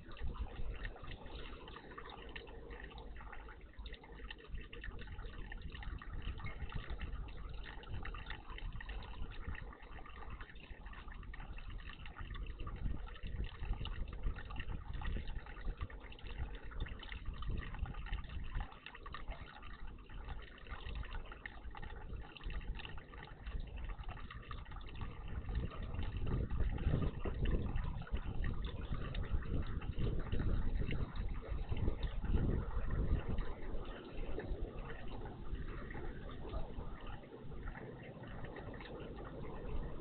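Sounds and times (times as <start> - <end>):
water splashing in bird bath: 0.0 - 40.0.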